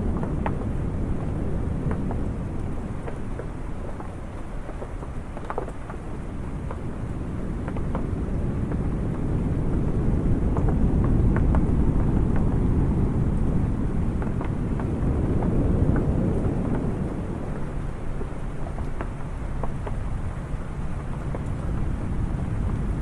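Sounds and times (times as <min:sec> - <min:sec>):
raindrops on wooden awning: 0:00.0 - 0:23.0.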